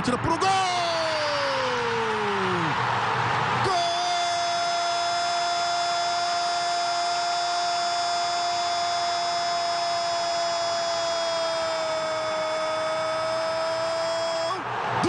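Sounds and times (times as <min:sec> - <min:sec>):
stadium crowd cheering: 0:00.0 - 0:15.0
narrator's drawn-out goal cry: 0:00.4 - 0:02.8, 0:03.6 - 0:15.0.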